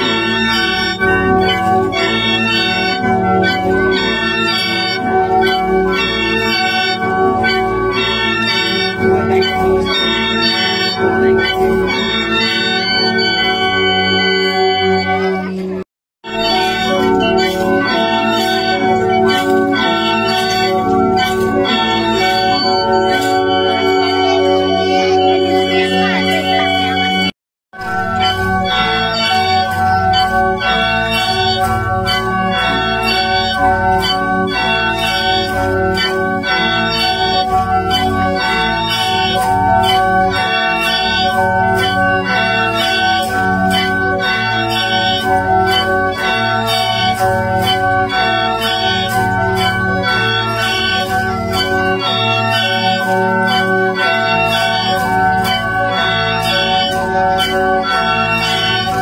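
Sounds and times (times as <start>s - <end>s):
mouth organs playing reedy chords: 0.0s - 59.0s.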